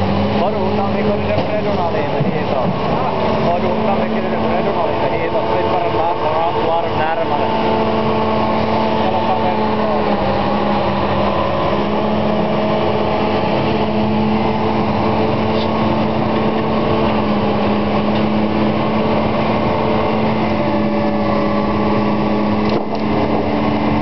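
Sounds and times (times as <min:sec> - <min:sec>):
machinery engine running under load: 0:00.0 - 0:24.0.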